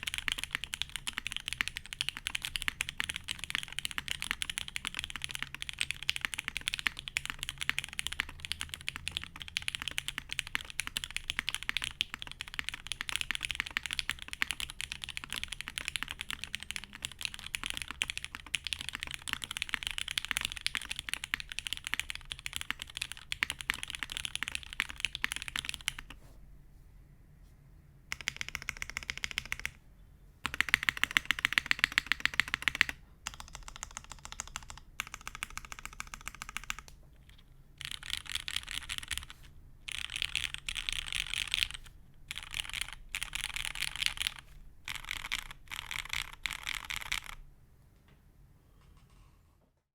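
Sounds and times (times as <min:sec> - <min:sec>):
mechanical keyboard typing: 0:00.0 - 0:26.2, 0:28.1 - 0:29.8, 0:30.4 - 0:47.4.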